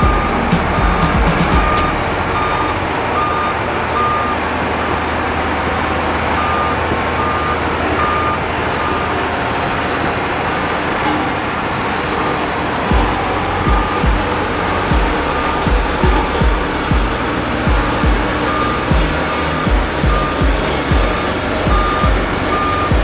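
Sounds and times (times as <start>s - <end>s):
heavy construction machine running: 0.0s - 23.0s
reversing alarm beeping: 0.0s - 23.0s.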